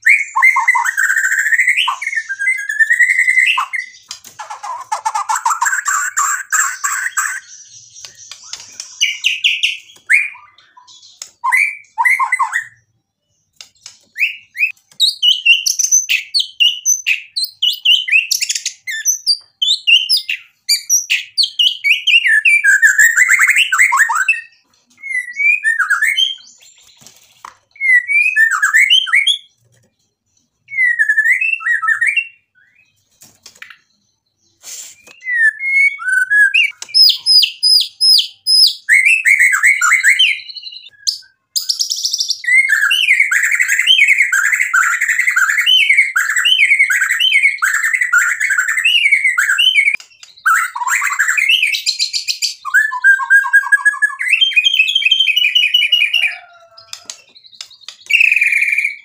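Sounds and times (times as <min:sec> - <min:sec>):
bird singing varied whistles: 0:00.0 - 0:12.9, 0:13.5 - 0:26.9, 0:27.7 - 0:29.5, 0:30.7 - 0:33.0, 0:34.5 - 0:59.0
repeated high bird whistles: 0:00.0 - 0:27.1, 0:27.7 - 0:29.6, 0:30.5 - 0:59.0.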